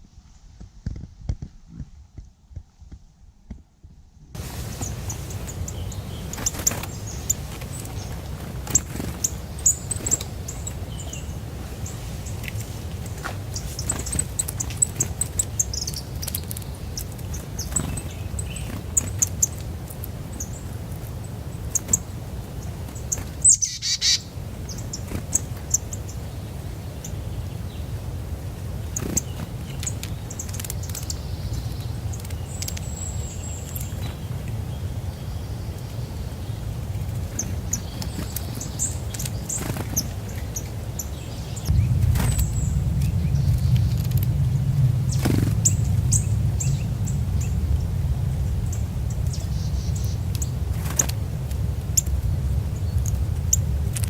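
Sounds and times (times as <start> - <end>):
steady low rumble: 0.0 - 54.0
small birds chirping: 4.4 - 54.0.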